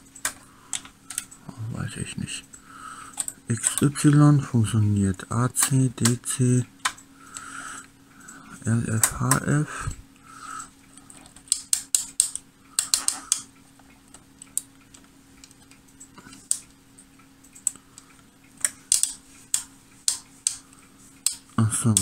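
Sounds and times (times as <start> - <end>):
switches and knobs clicking: 0.0 - 1.5, 2.4 - 22.0
faint steady hum: 0.0 - 22.0.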